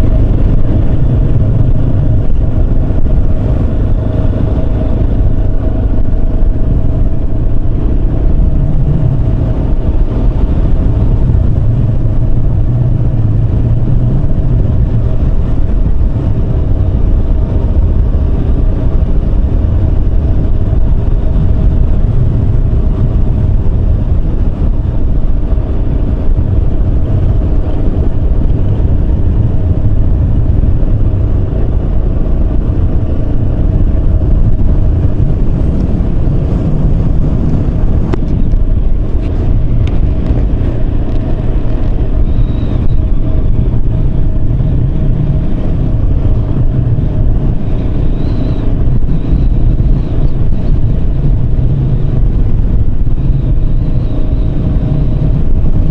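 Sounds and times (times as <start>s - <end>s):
low rumble of riding noise: 0.0s - 55.9s
motorcycle engine running steadily: 0.0s - 55.9s.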